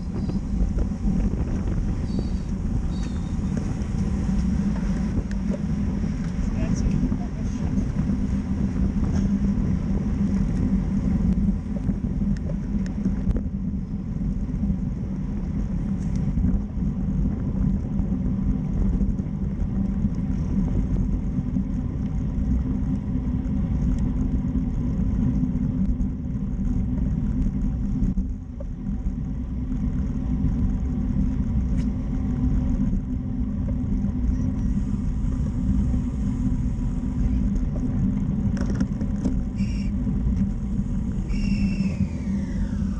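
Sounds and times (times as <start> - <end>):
tyre and road noise: 0.0 - 42.9
wind buffeting microphone: 0.0 - 42.9.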